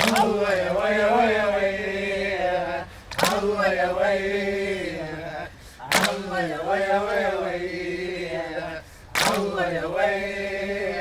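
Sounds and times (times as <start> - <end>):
group of voices chanting: 0.0 - 11.0.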